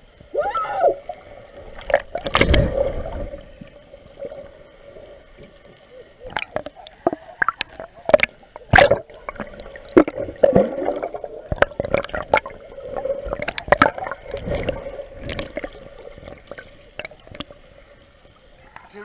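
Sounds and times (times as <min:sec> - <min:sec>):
water sloshing underwater: 0:00.0 - 0:18.9.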